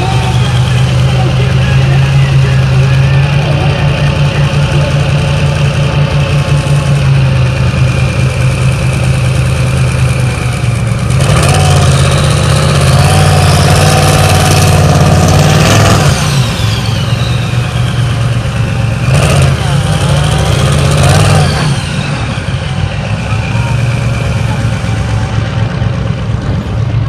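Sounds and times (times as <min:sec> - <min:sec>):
diesel truck engine revving: 0:00.0 - 0:27.0.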